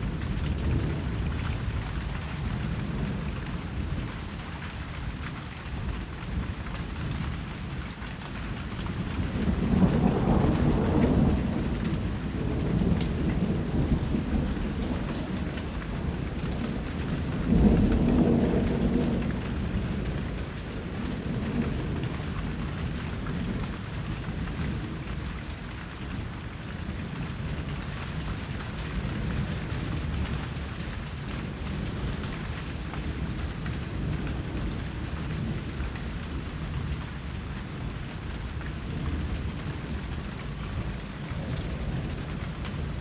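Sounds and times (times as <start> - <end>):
low rolling thunder: 0.0 - 43.0
steady rain: 0.0 - 43.0.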